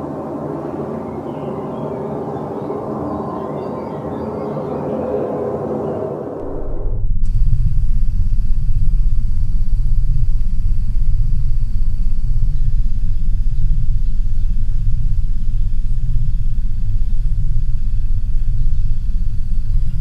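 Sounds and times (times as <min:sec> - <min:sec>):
deep throbbing drone: 0:00.0 - 0:20.0
faint high whine: 0:00.0 - 0:20.0.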